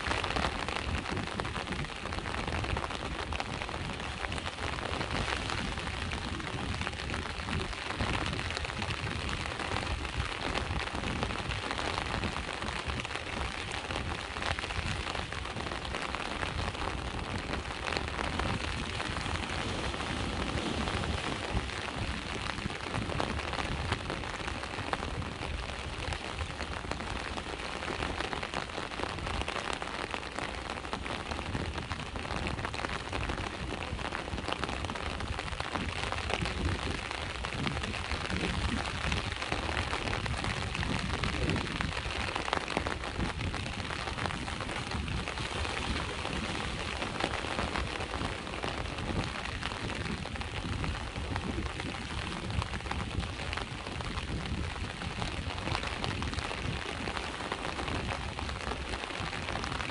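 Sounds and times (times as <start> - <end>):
sea waves washing on shore: 0.0 - 59.9
steady rain falling: 0.0 - 59.9.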